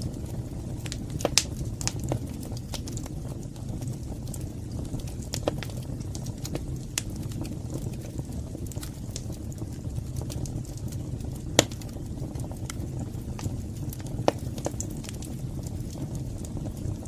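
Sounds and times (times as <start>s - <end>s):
fire flames roaring: 0.0s - 17.0s
logs crackling and popping: 0.0s - 17.0s.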